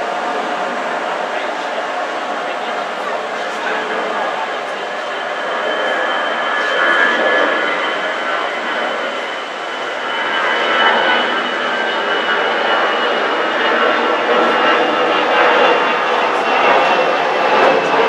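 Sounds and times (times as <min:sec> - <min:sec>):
jet engines roaring with whine: 0:00.0 - 0:18.0.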